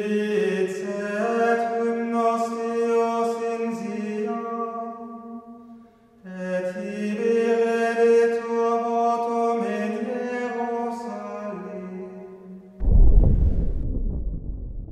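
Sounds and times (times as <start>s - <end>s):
slow vocal chant: 0.0s - 12.8s.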